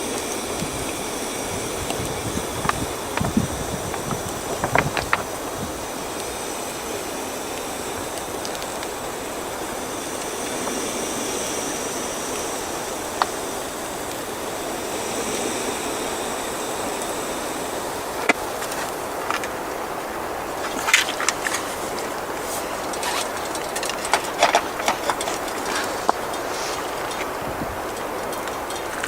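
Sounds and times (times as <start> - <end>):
steady rushing noise: 0.0 - 29.0.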